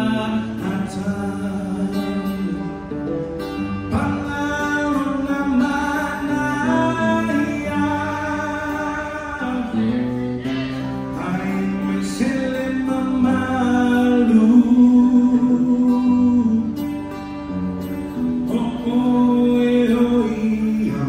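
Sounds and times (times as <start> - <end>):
guitar accompaniment: 0.0 - 21.0.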